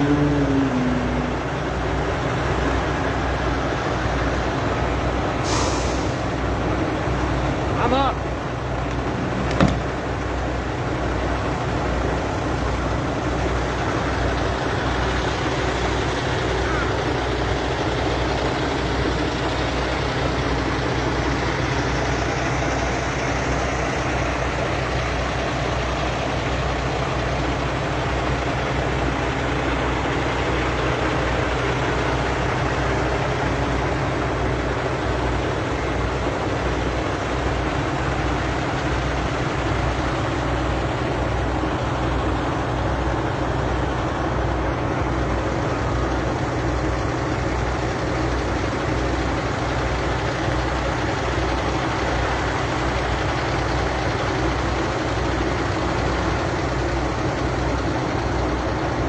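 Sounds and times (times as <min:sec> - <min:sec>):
large vehicle engine idling: 0:00.0 - 0:59.0.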